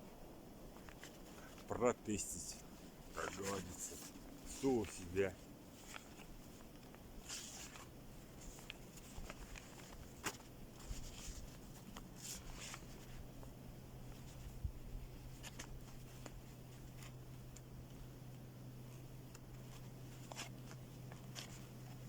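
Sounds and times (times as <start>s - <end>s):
faint low hum: 0.0s - 22.0s
soft rustles: 0.0s - 22.0s.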